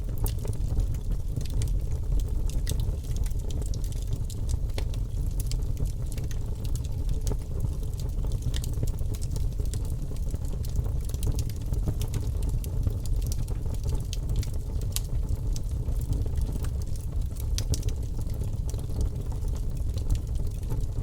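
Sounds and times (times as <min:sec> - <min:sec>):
bonfire crackling: 0:00.0 - 0:21.0.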